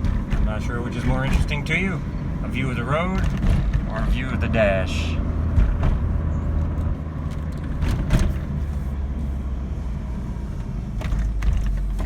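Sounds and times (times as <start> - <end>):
car engine pulling at low speed: 0.0 - 12.0
tyre and road rumble: 0.0 - 12.0.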